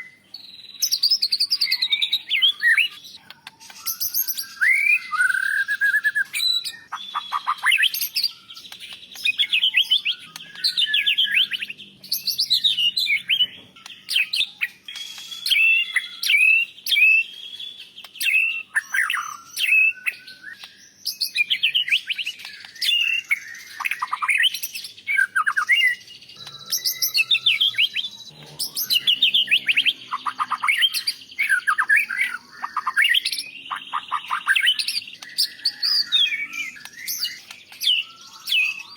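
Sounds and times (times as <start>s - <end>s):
songbird singing whistles and chirps: 0.0s - 38.9s.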